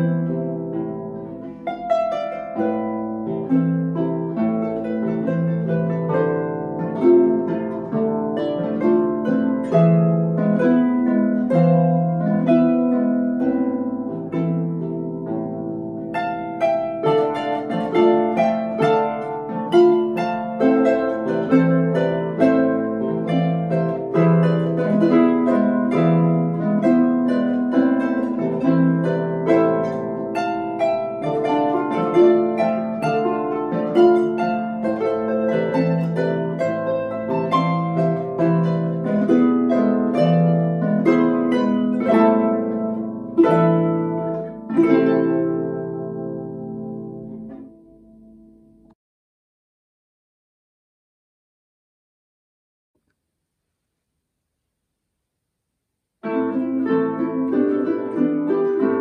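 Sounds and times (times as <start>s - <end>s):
harp duet plucked notes: 0.0s - 49.0s, 56.2s - 59.0s.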